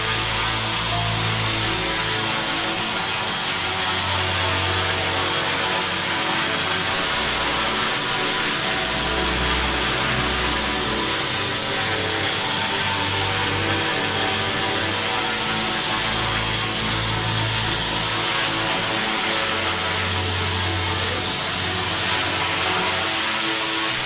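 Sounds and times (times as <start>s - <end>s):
electric motor and propeller whine: 0.0s - 24.0s.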